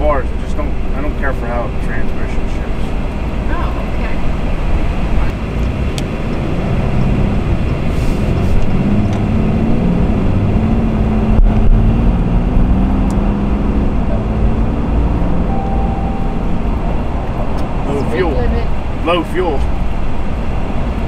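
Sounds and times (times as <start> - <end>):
diesel engine hum: 0.0 - 21.0
road noise inside vehicle: 0.0 - 21.0.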